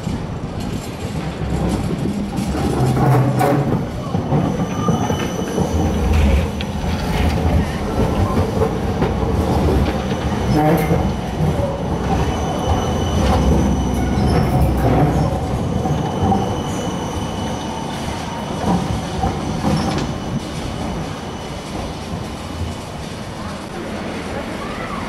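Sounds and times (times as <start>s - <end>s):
tram clunks: 0.0s - 25.0s
tram wheels rumbling on rails: 0.0s - 25.0s.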